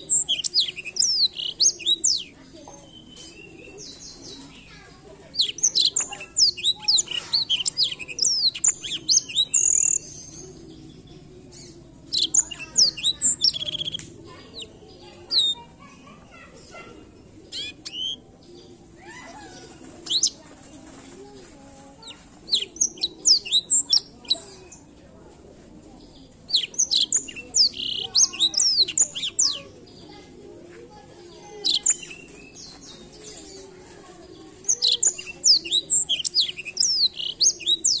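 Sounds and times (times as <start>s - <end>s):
canary singing chirps and trills: 0.0s - 25.1s, 26.0s - 38.0s.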